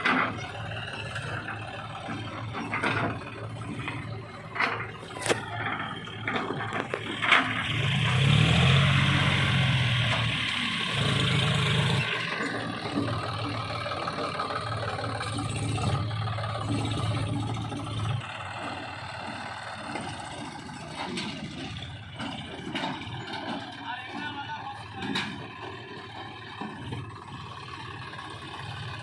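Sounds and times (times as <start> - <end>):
heavy diesel machinery engine: 0.0 - 29.0.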